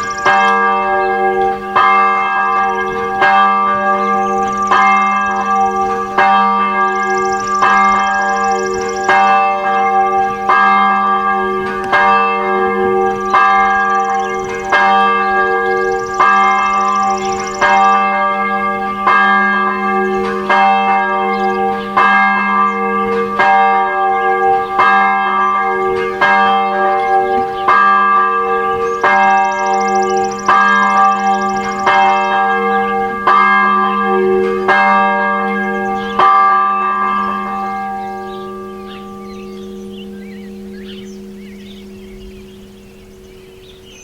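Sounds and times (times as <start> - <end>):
church bells ringing: 0.0 - 44.0.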